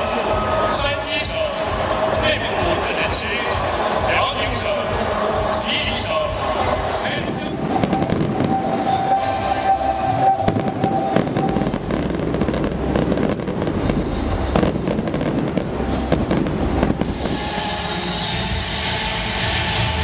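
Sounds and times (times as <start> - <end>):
continuous din: 0.0 - 20.0
fireworks popping and crackling: 0.0 - 20.0.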